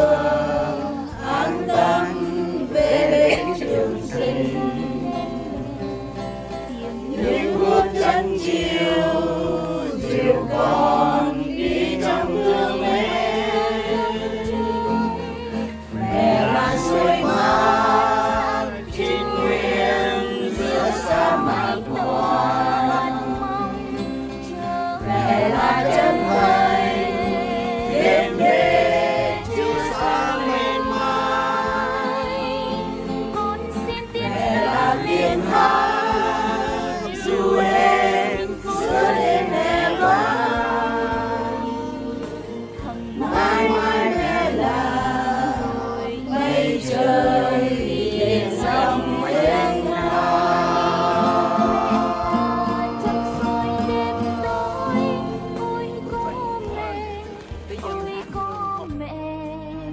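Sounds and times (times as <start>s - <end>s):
choir singing a hymn: 0.0s - 59.1s.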